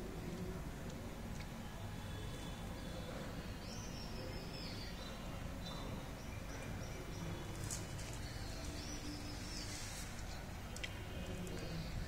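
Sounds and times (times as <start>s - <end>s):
low rumbling background noise: 0.0s - 12.0s
birds chirping: 1.7s - 12.0s.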